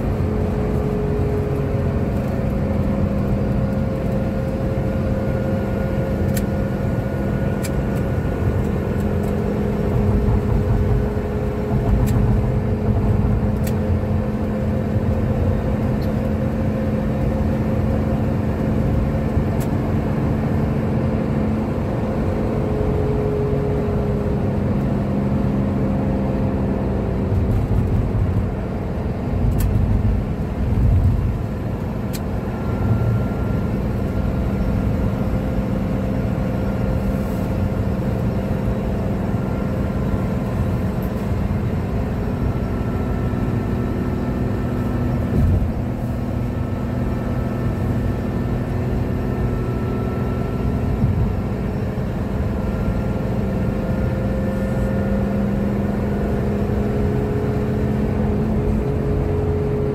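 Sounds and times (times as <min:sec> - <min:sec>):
engine drone: 0:00.0 - 0:59.9
road and tyre noise: 0:00.0 - 0:59.9.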